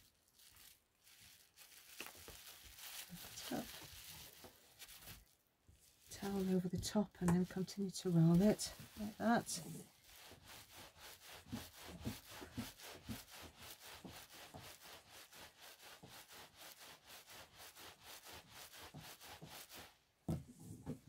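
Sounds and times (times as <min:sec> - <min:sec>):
towel bundle rubbing on table: 0:02.9 - 0:05.2, 0:06.0 - 0:20.9.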